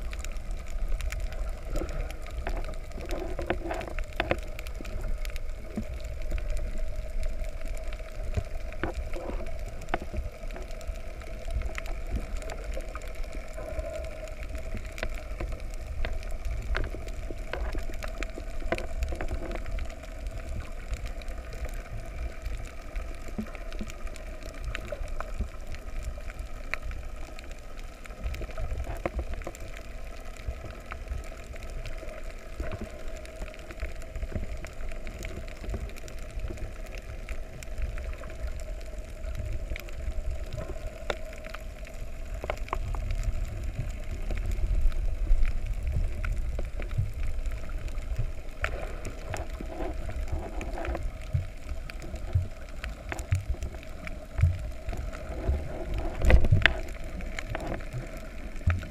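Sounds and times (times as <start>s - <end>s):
faint steady hum: 0.0s - 58.9s
underwater clicks and crackles: 0.0s - 58.9s
underwater water rumble: 0.0s - 58.9s.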